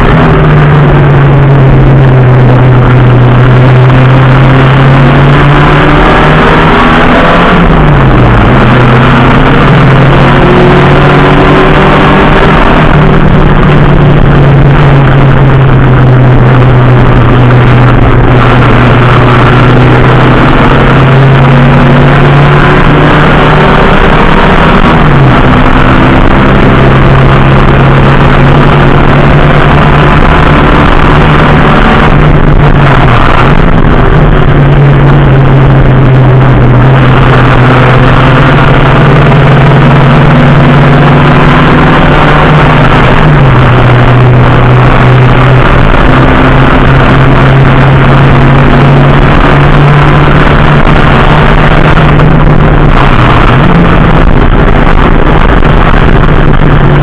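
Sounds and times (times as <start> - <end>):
racing engine high-revving: 0.0 - 57.0.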